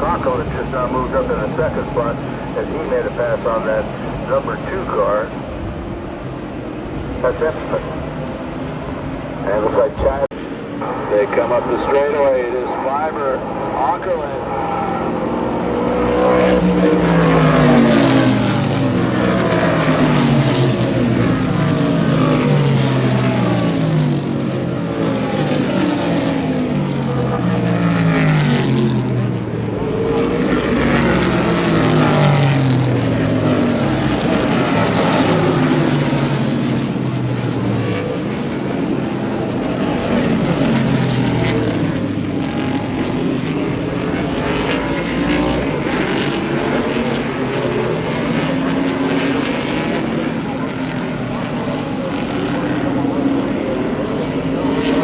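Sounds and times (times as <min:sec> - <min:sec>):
race cars passing at full throttle: 0:00.0 - 0:55.0.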